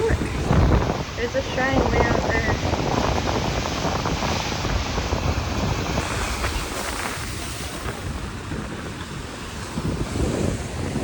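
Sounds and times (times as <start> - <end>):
ocean surf against rocks: 0.0 - 11.0
wind buffeting microphone: 0.0 - 11.0.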